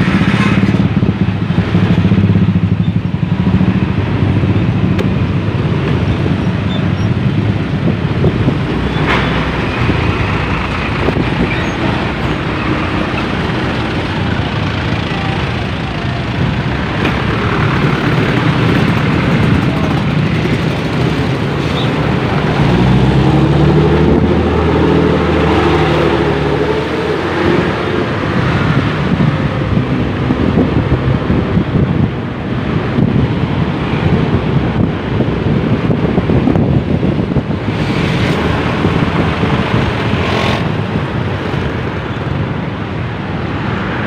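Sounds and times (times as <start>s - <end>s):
motorcycle engine and road noise: 0.0s - 44.0s.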